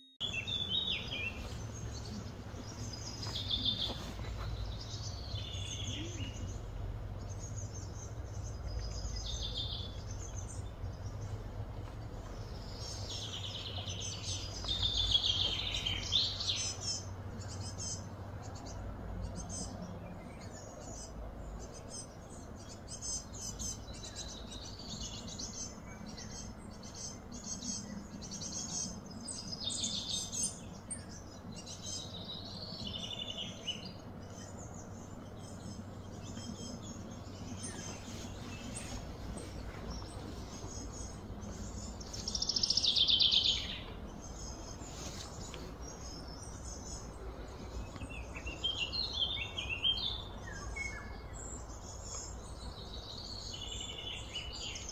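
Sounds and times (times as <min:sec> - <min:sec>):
birds chirping and calling: 0:00.2 - 0:54.9
steady low hum: 0:00.2 - 0:54.9.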